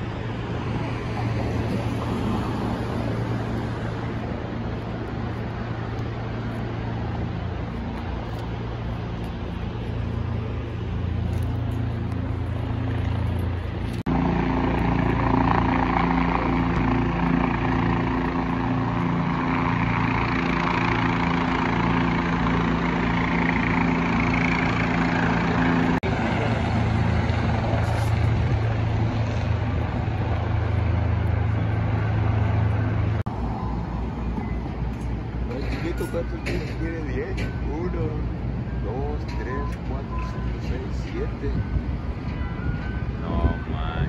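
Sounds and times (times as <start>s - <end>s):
city street traffic: 0.0s - 44.0s
steady engine drone: 0.0s - 44.0s.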